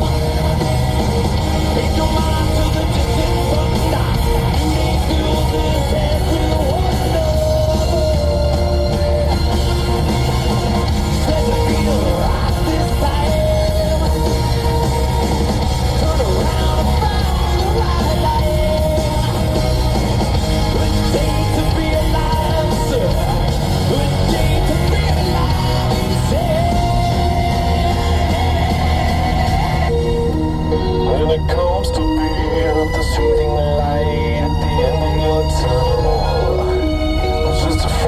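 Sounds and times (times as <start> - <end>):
person yelling singing: 0.0 - 30.2, 30.9 - 38.0
heavy metal song: 0.0 - 38.0.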